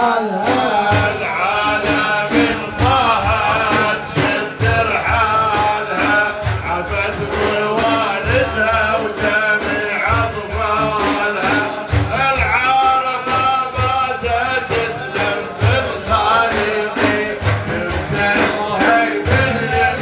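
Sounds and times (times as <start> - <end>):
devotional praise singing: 0.0 - 20.0
hand drums beating: 0.3 - 20.0.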